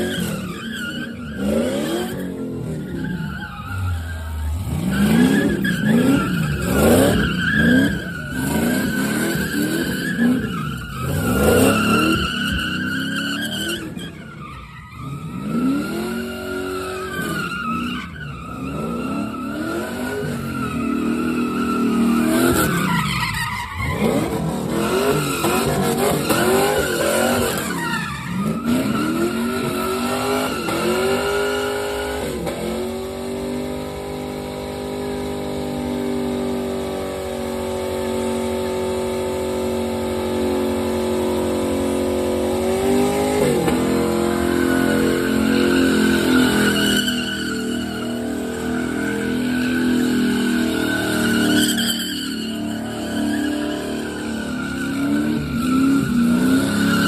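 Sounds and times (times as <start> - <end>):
car engine revving: 0.0 - 14.3, 15.0 - 23.2, 23.8 - 57.0
tyres skidding: 0.0 - 57.0.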